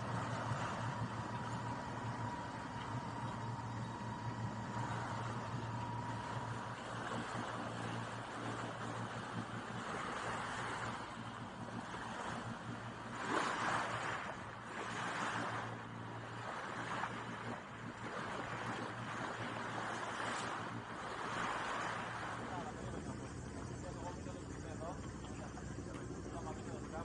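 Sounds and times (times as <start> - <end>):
sea water splashing past hull: 0.0 - 27.0
steady low hum: 0.0 - 27.0.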